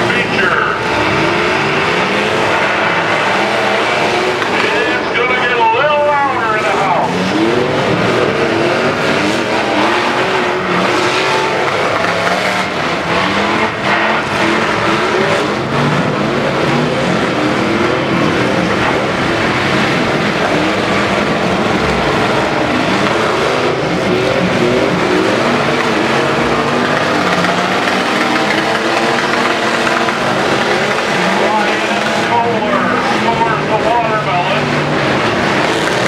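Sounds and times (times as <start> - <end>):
truck engines revving: 0.0 - 36.0.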